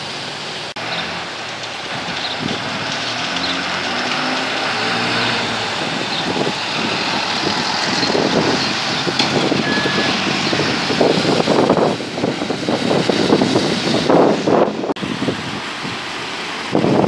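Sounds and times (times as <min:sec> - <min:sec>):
bus engine running: 0:00.0 - 0:17.0
tyre road noise: 0:00.0 - 0:17.0
wind buffeting microphone: 0:01.8 - 0:17.0.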